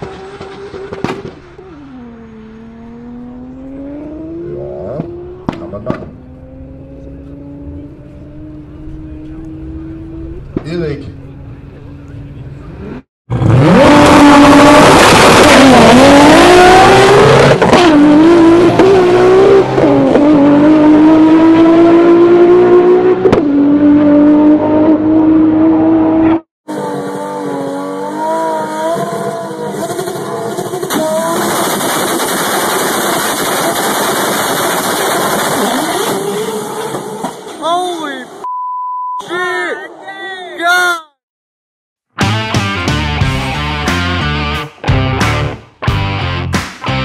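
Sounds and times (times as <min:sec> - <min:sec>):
car engine at full throttle: 0:00.0 - 0:38.4
car engine revving unevenly: 0:00.0 - 0:38.4.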